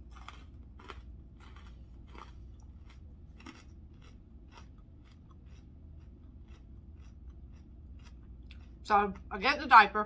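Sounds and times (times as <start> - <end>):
crunchy chewing of salad: 0.0 - 9.6
low steady hum: 0.0 - 10.0.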